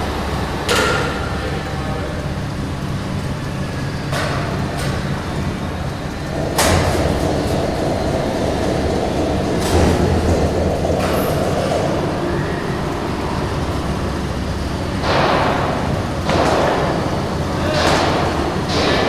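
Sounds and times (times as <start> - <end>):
factory machinery humming: 0.0 - 19.0
loud noisy machinery surge: 0.0 - 19.0.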